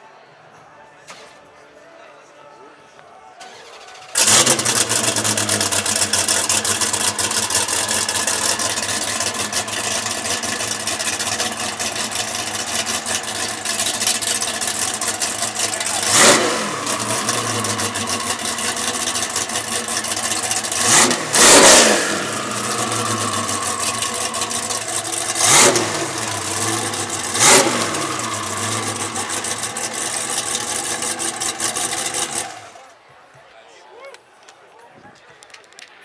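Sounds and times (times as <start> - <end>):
car engine idling: 3.4 - 32.9.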